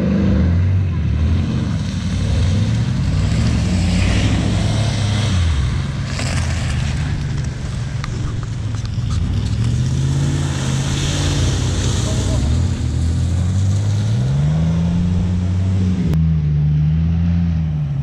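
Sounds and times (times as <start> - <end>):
truck engines under load: 0.0 - 18.0.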